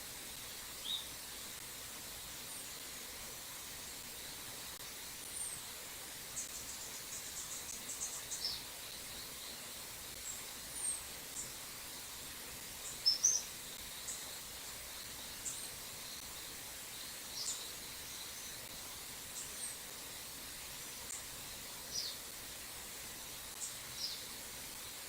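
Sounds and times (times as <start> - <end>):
insects buzzing: 0.0 - 25.0.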